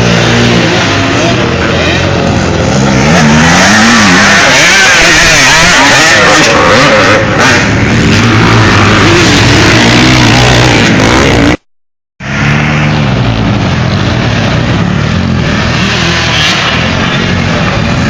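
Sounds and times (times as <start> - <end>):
motocross motorcycles racing: 0.0 - 11.6, 12.2 - 18.0.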